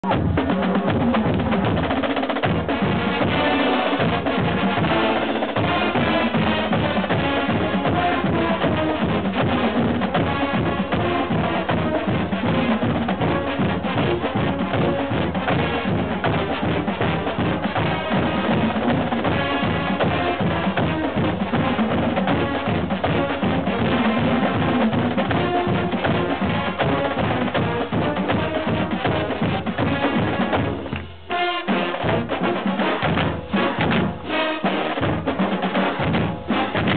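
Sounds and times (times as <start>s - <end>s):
marching band playing: 0.0s - 36.9s
marching snare and bass drums: 0.0s - 36.9s.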